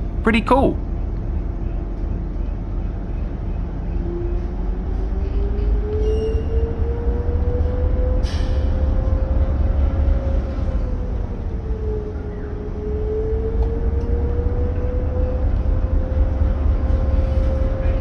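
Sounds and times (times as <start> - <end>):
ferry diesel engines rumbling: 0.0 - 18.0.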